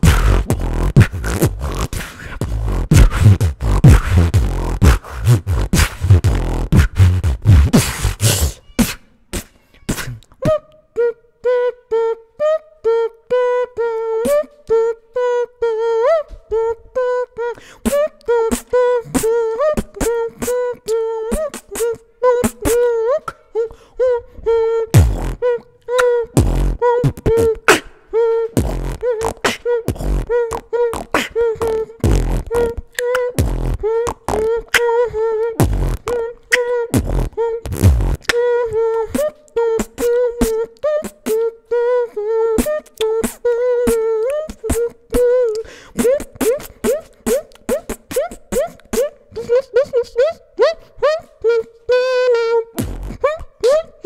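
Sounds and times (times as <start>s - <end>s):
person beatboxing: 0.0s - 10.7s, 17.6s - 23.8s, 24.4s - 51.3s, 52.6s - 54.0s
vocal melody: 0.0s - 54.0s.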